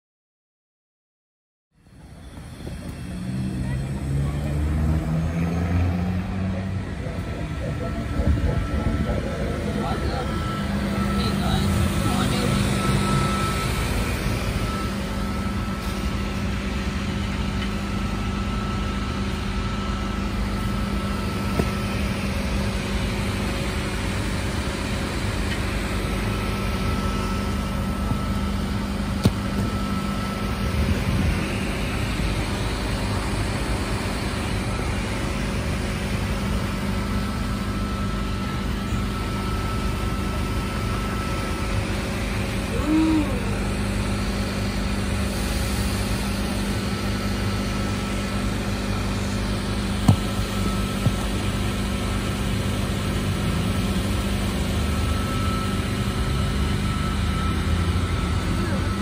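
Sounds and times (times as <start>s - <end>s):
faint high whine: 1.8s - 4.7s, 5.4s - 53.3s, 54.1s - 59.0s
electric train humming and rumbling: 1.8s - 59.0s.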